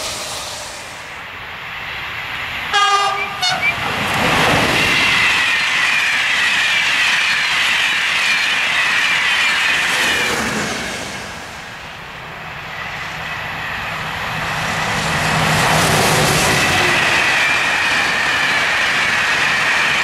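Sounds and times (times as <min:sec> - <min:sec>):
electric locomotive hauling freight: 0:00.0 - 0:20.0
passenger train rushing past: 0:00.0 - 0:20.0.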